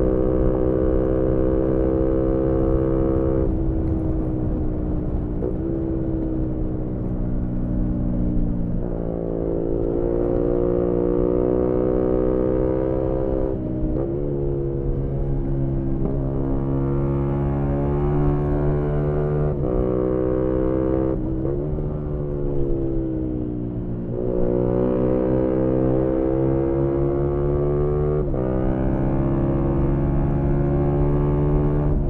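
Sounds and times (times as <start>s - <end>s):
motorcycle engine while riding: 0.0s - 32.0s.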